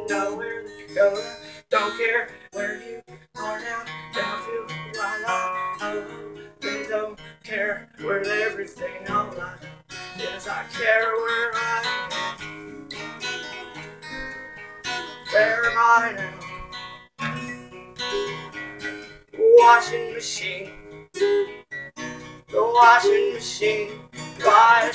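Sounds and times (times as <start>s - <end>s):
man singing: 0.0s - 13.7s, 14.8s - 18.6s, 19.3s - 21.6s, 22.5s - 24.9s
acoustic guitars strummed: 0.0s - 24.9s.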